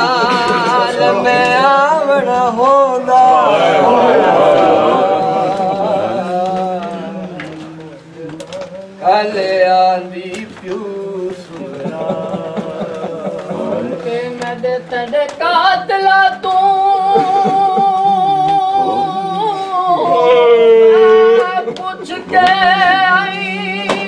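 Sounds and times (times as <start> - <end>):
men singing a lament: 0.0 - 24.0.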